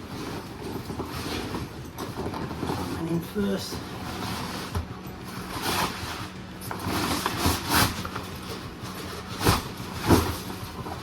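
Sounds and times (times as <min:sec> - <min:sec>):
canvas rustling and scraping: 0:00.0 - 0:11.0.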